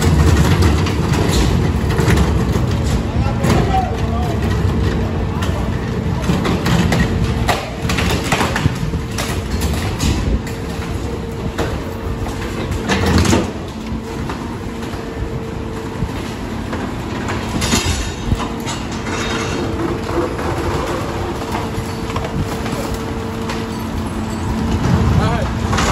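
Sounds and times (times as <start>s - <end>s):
debris crashing into hopper: 0.0s - 25.9s
dumpster carts clattering: 0.0s - 25.9s
garbage truck running: 0.0s - 25.9s.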